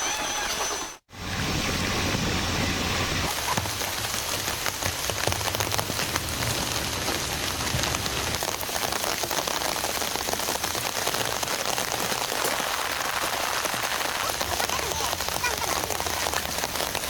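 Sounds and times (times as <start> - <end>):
heavy rain patter: 1.2 - 17.0.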